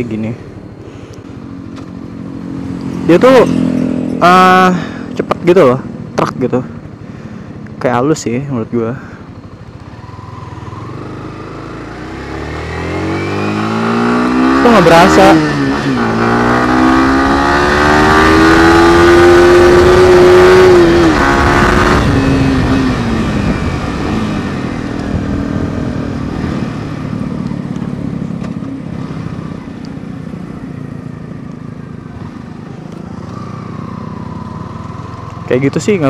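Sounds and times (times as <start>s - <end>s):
wind and road noise: 0.0s - 36.0s
motorcycle engine accelerating: 1.4s - 7.0s, 9.0s - 36.0s.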